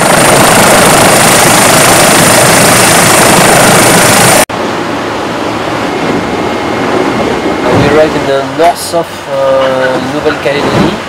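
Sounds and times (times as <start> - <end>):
rush of wind and water: 0.0 - 11.0.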